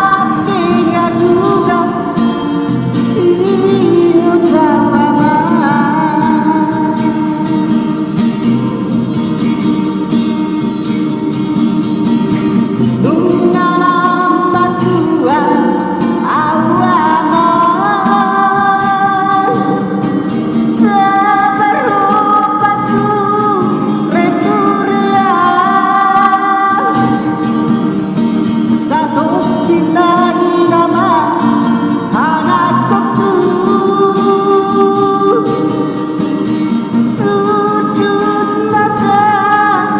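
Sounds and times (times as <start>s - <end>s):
man singing: 0.0s - 8.8s, 12.8s - 39.9s
guitar accompaniment: 0.0s - 39.9s.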